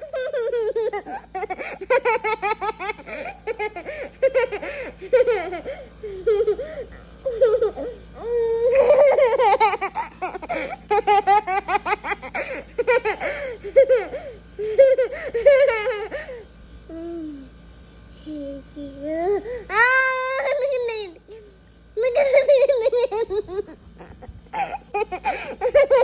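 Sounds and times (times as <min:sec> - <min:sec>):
young children laughing: 0:00.0 - 0:16.4, 0:19.7 - 0:21.2, 0:22.0 - 0:26.0.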